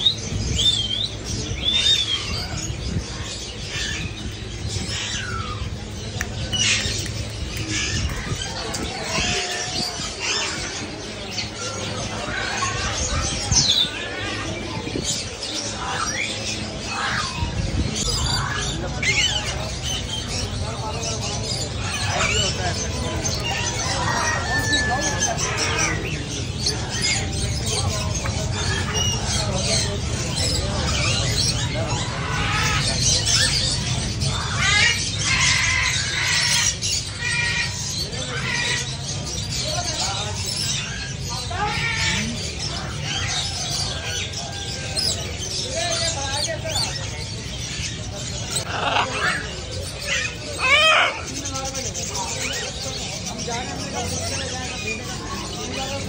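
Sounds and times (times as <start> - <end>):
caged birds chirping and squawking: 0.0 - 56.0.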